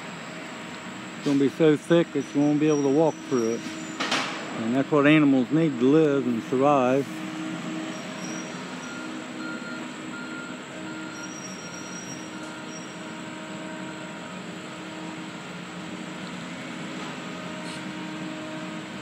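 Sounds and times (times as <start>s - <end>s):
diesel engine droning: 0.0s - 19.0s
faint steady whines: 0.0s - 19.0s.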